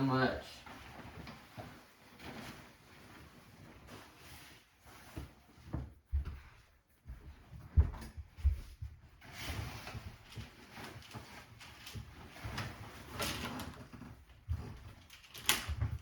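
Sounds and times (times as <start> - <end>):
handling rustling and soft knocks: 0.6 - 16.0.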